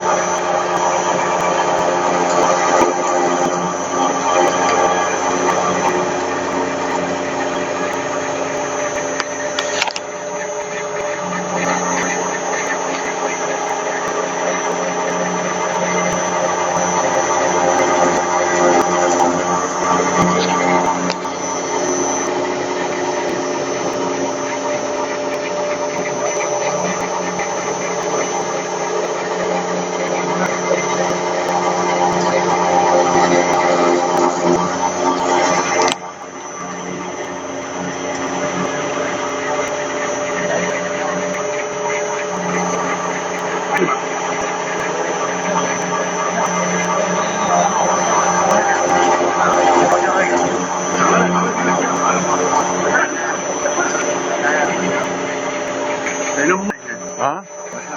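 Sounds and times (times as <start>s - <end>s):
milling machine humming: 0.0s - 57.9s.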